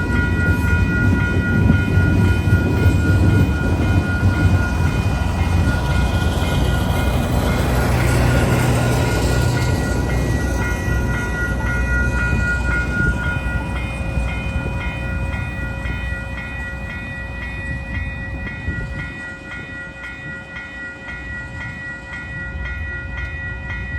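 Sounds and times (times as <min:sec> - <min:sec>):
pulsing high ringing tone: 0:00.0 - 0:23.9
train rolling past: 0:00.0 - 0:23.9.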